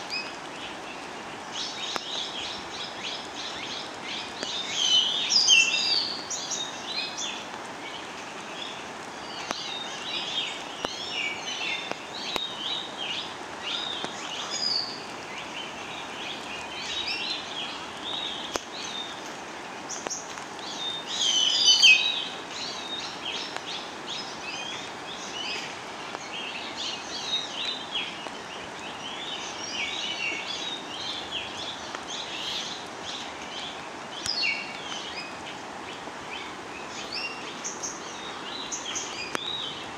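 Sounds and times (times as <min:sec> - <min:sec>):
birds chirping and singing: 0:00.0 - 0:39.9
steady background hiss: 0:00.0 - 0:39.9.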